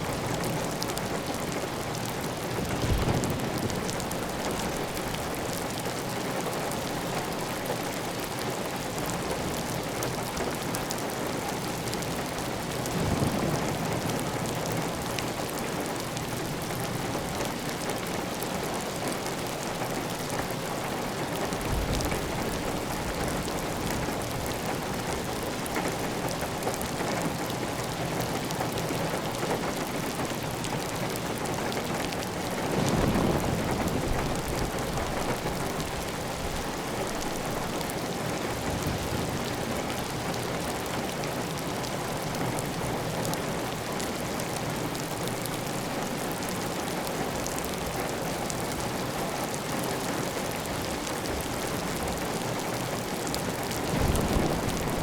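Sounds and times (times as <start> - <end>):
heavy rain on a tile roof: 0.0 - 55.0.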